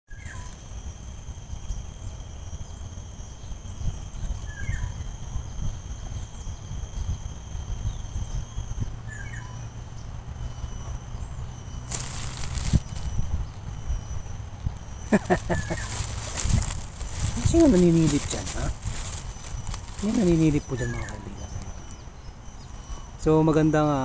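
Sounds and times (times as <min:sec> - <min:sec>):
faint bird chirps: 0:00.1 - 0:00.8, 0:01.4 - 0:24.0
wind rumble on microphone: 0:00.1 - 0:23.3
high insect drone: 0:00.1 - 0:24.0.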